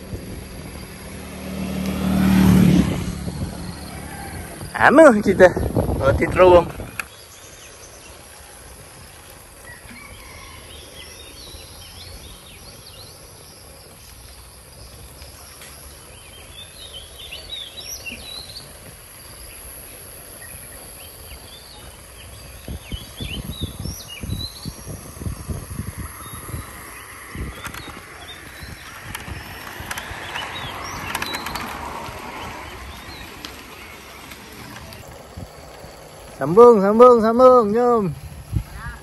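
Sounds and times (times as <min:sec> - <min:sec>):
birds chirping: 0:00.0 - 0:39.0
high insect drone: 0:00.0 - 0:39.0.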